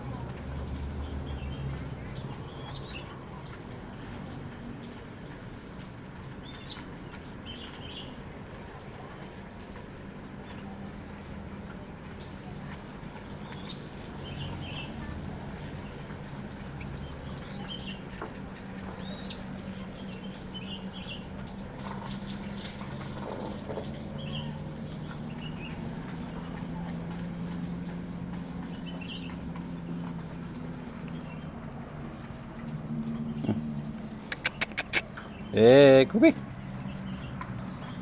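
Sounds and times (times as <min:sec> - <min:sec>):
small birds chirping: 0:00.1 - 0:38.0.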